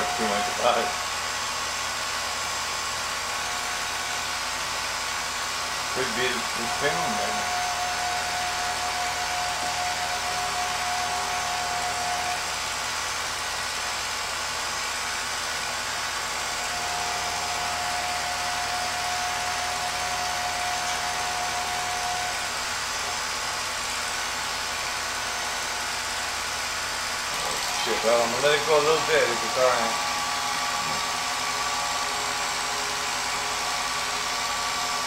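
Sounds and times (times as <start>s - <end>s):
film projector motor whirring: 0.0s - 35.0s.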